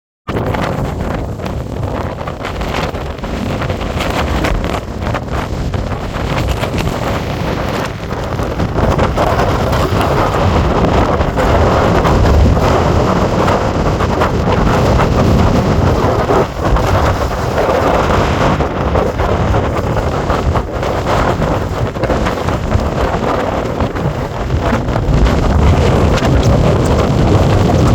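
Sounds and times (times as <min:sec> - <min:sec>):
storm wind buffeting microphone: 0:00.2 - 0:27.9
breaking surf: 0:00.3 - 0:27.9
heavy low rumble: 0:00.3 - 0:27.9.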